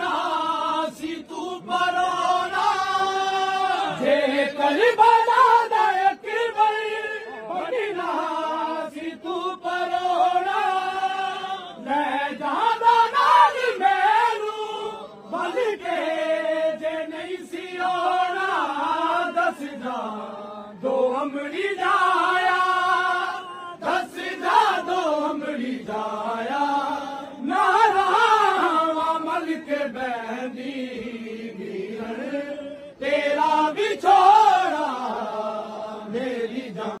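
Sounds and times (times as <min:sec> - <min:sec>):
men chanting in unison: 0:00.0 - 0:37.0.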